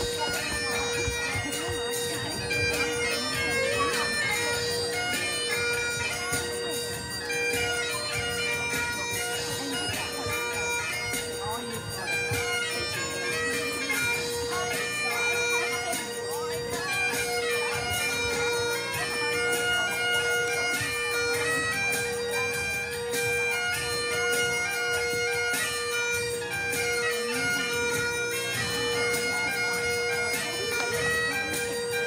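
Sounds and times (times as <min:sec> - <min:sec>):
bagpipe drone: 0:00.0 - 0:32.0
bagpipe melody: 0:00.0 - 0:32.0.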